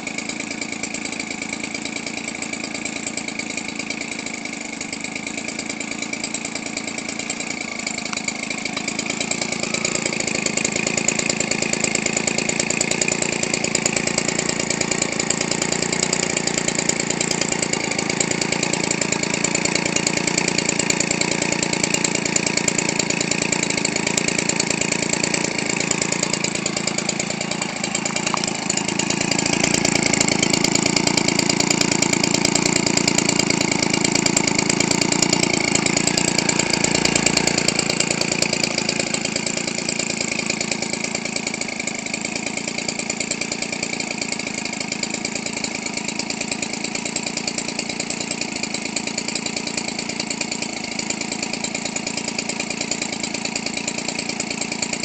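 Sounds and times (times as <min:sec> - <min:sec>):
two-stroke engine idling: 0:00.0 - 0:55.0.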